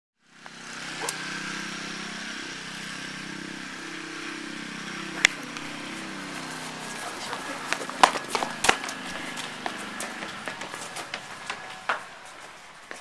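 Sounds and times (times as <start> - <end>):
engine running: 0.2 - 13.0.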